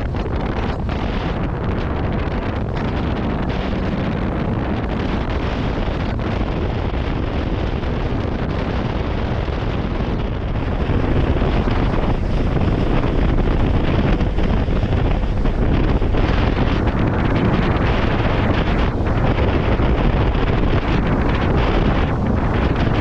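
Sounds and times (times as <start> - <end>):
wind rush over microphone: 0.0 - 23.0.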